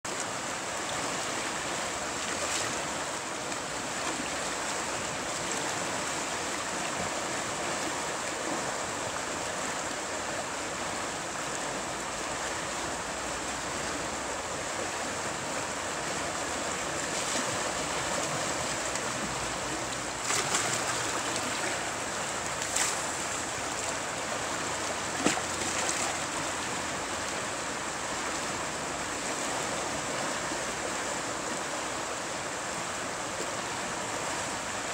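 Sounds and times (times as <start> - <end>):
river rapid rushing: 0.1 - 34.9.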